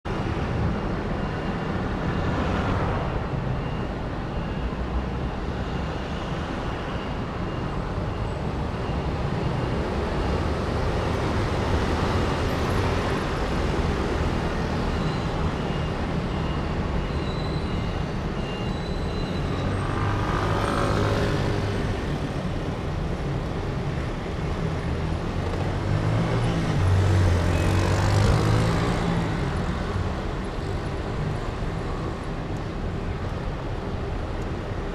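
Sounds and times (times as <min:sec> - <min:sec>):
road traffic engine hum: 0:00.0 - 0:34.9
vehicles passing: 0:00.0 - 0:34.9.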